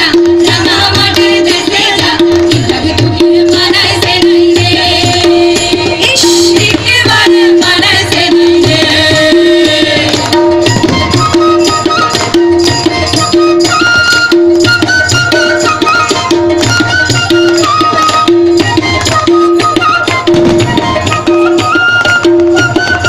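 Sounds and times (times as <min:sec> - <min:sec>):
tabla rhythm: 0:00.0 - 0:23.0
folk melody line: 0:00.1 - 0:23.0.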